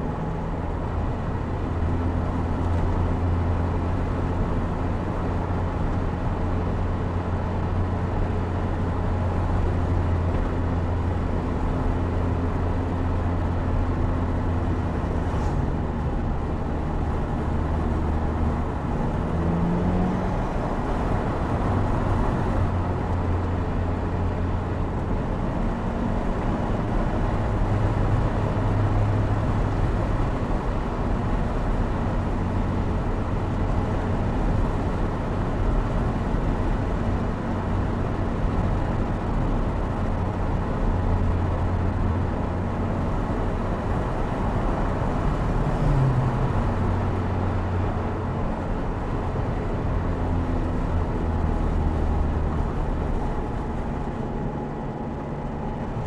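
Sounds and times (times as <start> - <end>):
car engine cruising: 0.0 - 56.0
road noise: 0.0 - 56.0.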